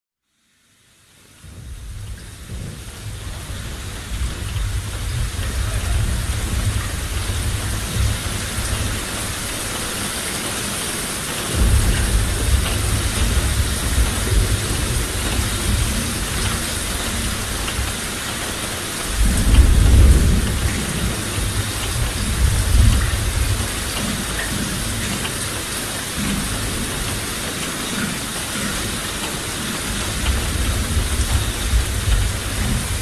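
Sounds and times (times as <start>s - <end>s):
heavy rain: 0.3s - 33.0s
rolling thunder: 1.4s - 27.3s, 29.7s - 33.0s.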